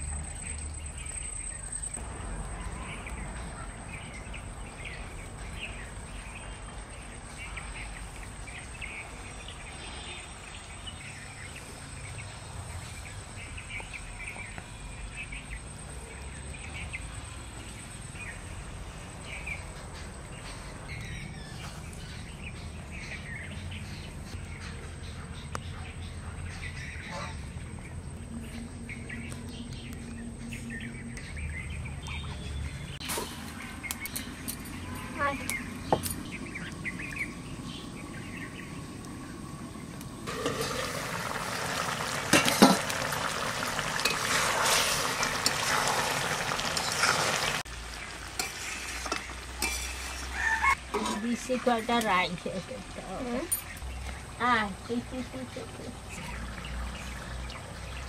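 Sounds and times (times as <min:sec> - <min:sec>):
small birds chirping: 0:00.0 - 0:49.8, 0:50.4 - 0:58.0.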